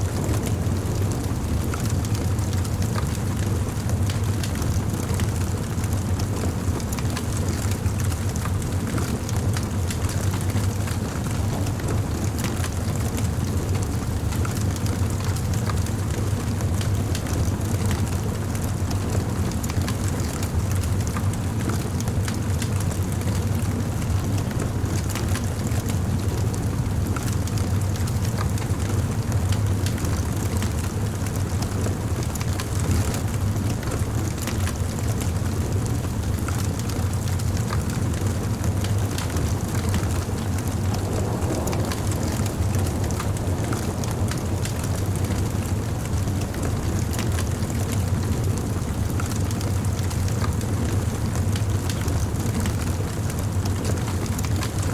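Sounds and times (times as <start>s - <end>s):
low fire rumble: 0.0s - 54.9s
wood fire crackling and popping: 0.1s - 54.9s.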